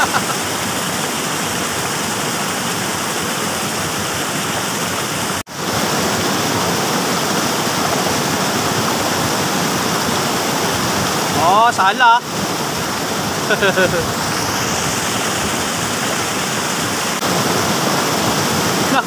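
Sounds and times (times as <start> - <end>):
stream water over rocky cascade: 0.0 - 19.0.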